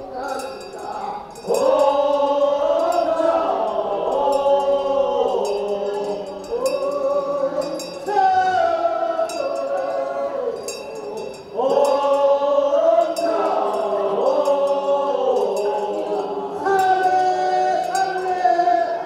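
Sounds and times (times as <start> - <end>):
handbell clinking: 0.0 - 18.7
group singing long notes: 0.0 - 19.0.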